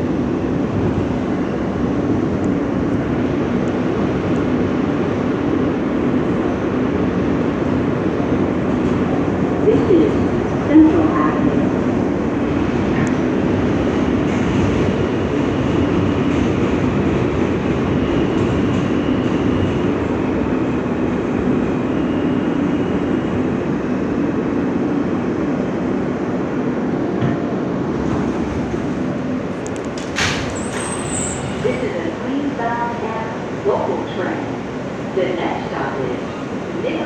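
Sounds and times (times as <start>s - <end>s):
subway car rumbling on track: 0.0s - 37.0s.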